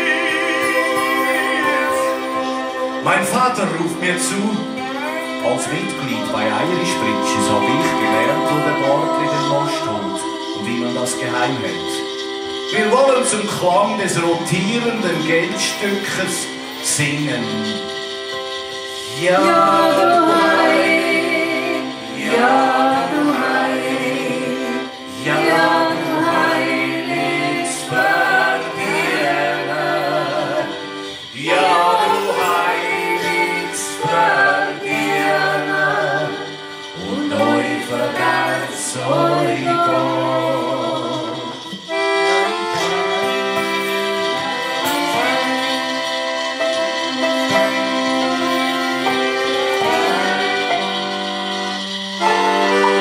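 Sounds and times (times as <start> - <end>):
held chords: 0.0 - 53.0
wavering melody line: 0.0 - 53.0.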